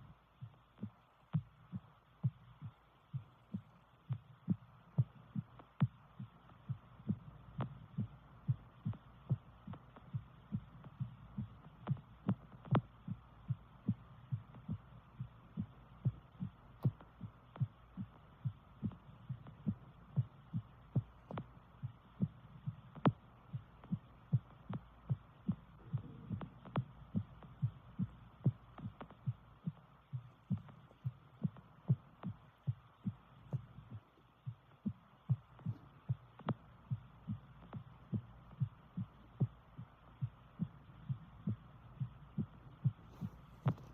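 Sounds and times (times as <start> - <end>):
faint steady hum: 0.0 - 43.9
heartbeat thumps: 0.0 - 43.9.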